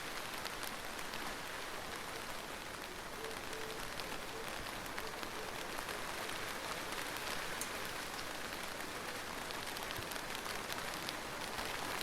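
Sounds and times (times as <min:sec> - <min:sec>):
raindrops ticking on a surface: 0:00.0 - 0:12.0
steady rain hiss: 0:00.0 - 0:12.0.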